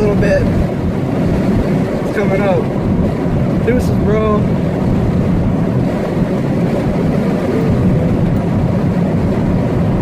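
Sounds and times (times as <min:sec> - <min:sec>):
road rumble inside car: 0:00.0 - 0:10.0
wind buffeting: 0:00.0 - 0:10.0.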